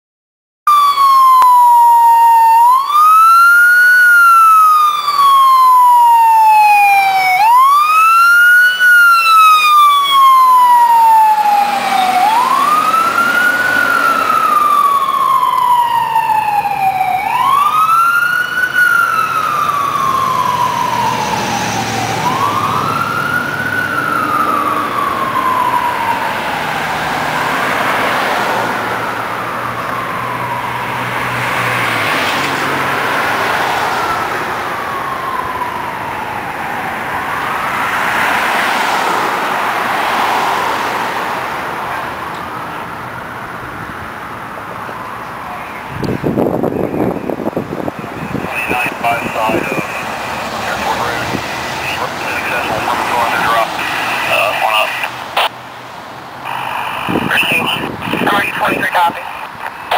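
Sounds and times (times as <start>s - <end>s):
emergency siren wailing: 0.7s - 59.9s.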